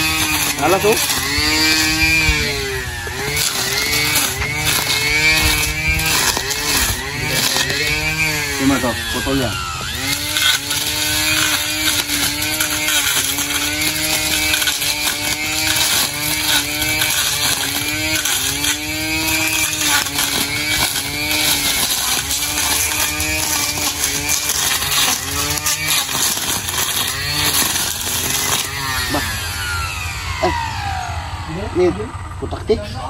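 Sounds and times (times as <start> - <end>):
string trimmer cutting grass: 0.0 - 32.8.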